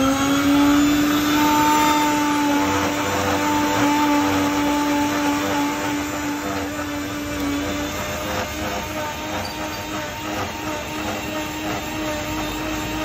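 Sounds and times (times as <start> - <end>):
electric blender whining: 0.0 - 13.0.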